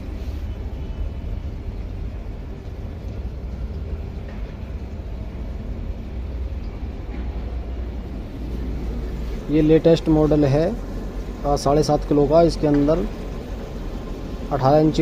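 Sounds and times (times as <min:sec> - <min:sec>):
washing machine rumbling: 0:00.0 - 0:15.0.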